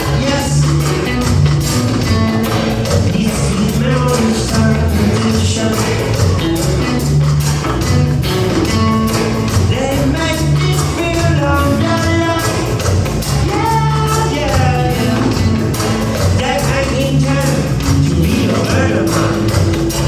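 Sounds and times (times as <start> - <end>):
band music: 0.0 - 20.0.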